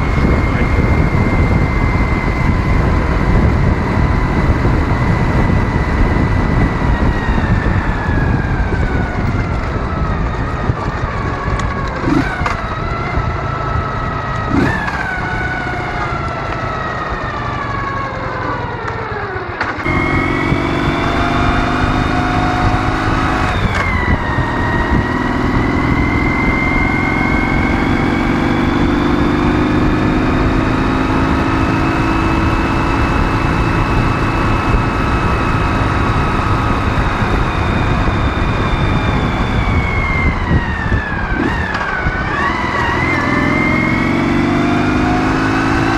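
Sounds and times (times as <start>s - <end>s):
motorcycle engine: 0.0s - 45.9s
road noise: 0.0s - 45.9s
wind noise: 0.0s - 45.9s.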